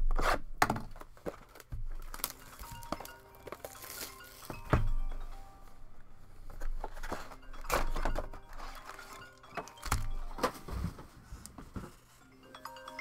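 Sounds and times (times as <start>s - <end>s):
card packs rustling: 0.9s - 12.1s
faint background music: 1.8s - 13.0s.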